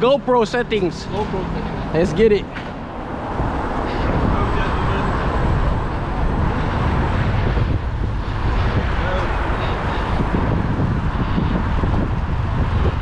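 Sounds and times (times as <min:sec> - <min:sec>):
wind rushing on microphone: 0:00.0 - 0:13.0.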